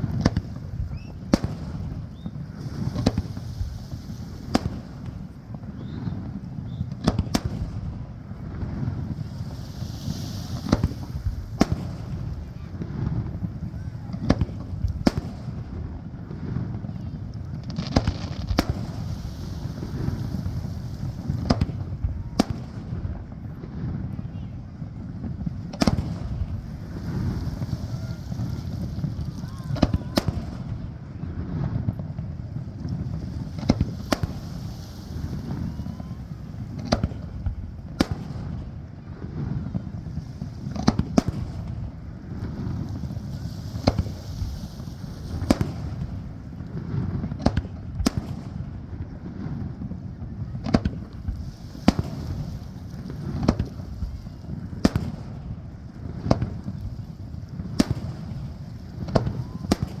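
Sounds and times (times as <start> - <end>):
fireworks bursting: 0.0 - 60.0.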